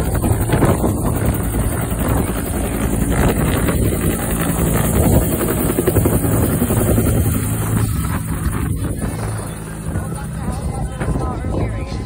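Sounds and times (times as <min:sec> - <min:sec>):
helicopter turbine and rotor: 0:00.0 - 0:12.0
wind buffeting microphone: 0:00.0 - 0:12.0.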